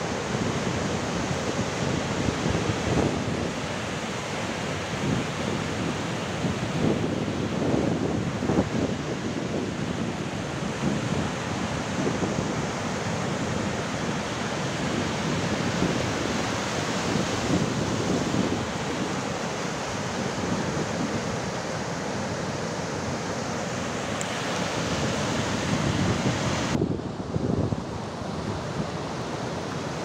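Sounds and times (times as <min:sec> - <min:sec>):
sea surf breaking on beach: 0:00.0 - 0:30.0
wind on microphone: 0:00.0 - 0:30.0.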